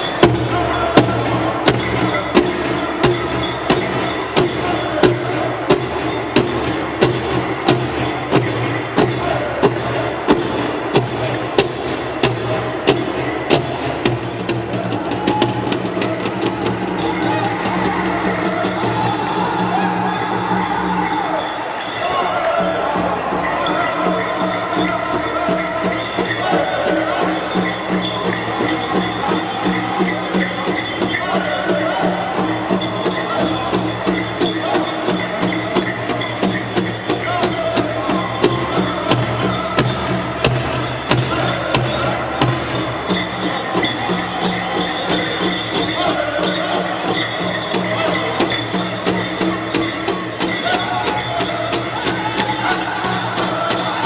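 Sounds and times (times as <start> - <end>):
bells jingling: 0.0 - 54.0
drum group singing: 0.0 - 54.0
fast steady drum beat: 0.0 - 54.0.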